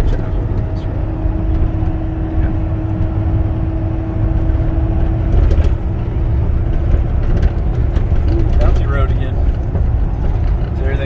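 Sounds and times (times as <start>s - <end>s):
diesel engine droning in cab: 0.0s - 11.0s.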